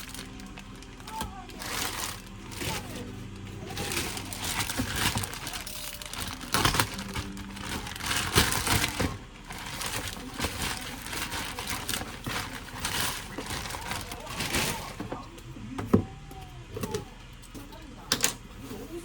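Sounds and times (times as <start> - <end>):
packaging crinkling: 0.0 - 15.4.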